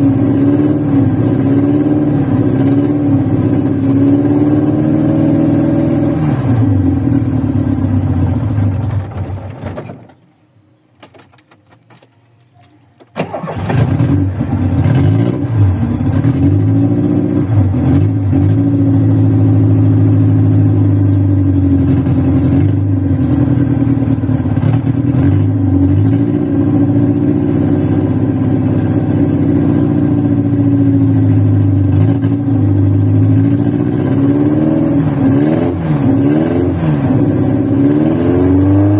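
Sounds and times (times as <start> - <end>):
car engine running rough: 0.0 - 10.3, 13.1 - 38.9.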